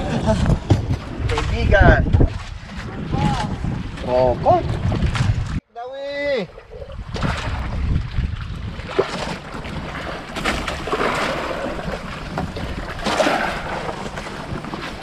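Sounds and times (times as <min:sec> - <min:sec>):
water washing against boat hull: 0:00.0 - 0:05.6, 0:06.5 - 0:15.0
wind buffeting microphone: 0:00.0 - 0:05.7, 0:06.3 - 0:15.0.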